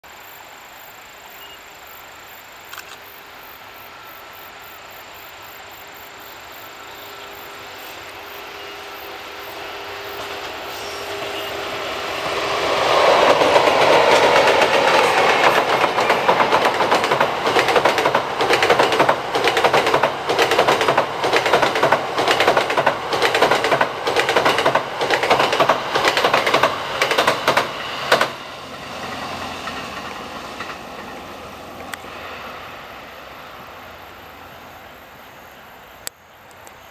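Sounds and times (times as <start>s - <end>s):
train rumbling over a bridge: 3.3s - 36.6s.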